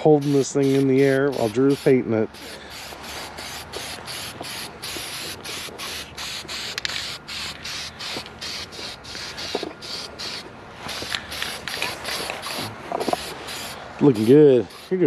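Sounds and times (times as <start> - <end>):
spray paint can hissing: 0.0 - 15.0.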